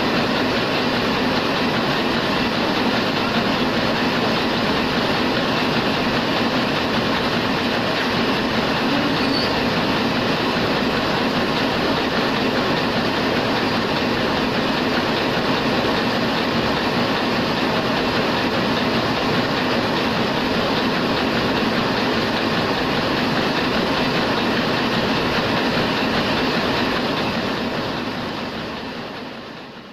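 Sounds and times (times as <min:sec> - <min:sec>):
printing press running: 0:00.0 - 0:29.9.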